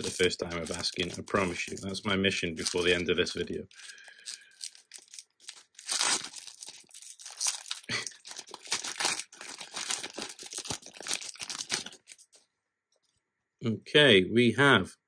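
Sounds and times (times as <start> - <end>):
wrapper tearing and crinkling: 0.0 - 12.4.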